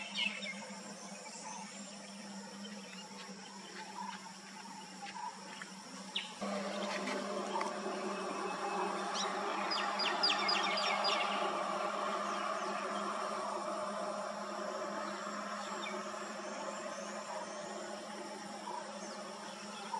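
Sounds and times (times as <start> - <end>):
birdsong and sharp chirps: 0.0 - 19.9
insect buzz: 0.0 - 19.9
steady background hum: 0.0 - 19.9.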